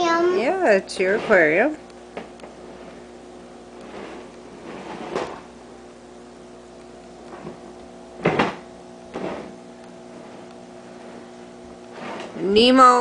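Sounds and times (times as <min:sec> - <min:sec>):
aquarium air pump humming: 0:00.0 - 0:13.0.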